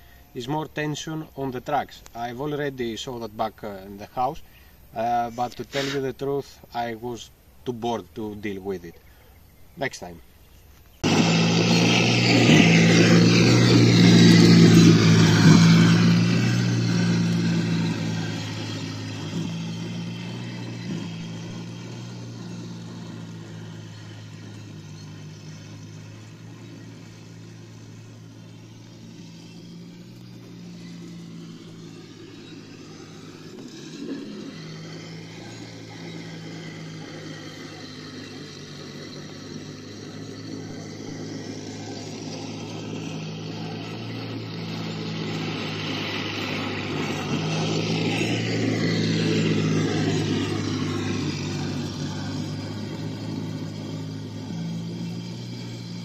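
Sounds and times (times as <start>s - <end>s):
track noise: 9.6s - 56.0s
model motor whine: 10.4s - 56.0s.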